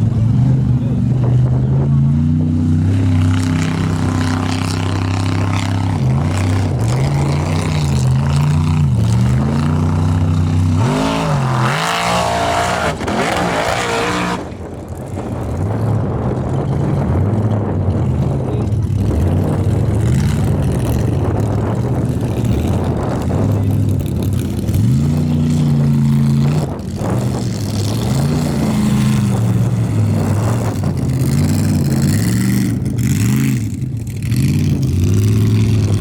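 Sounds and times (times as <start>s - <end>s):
race truck engine revving: 0.0s - 36.0s.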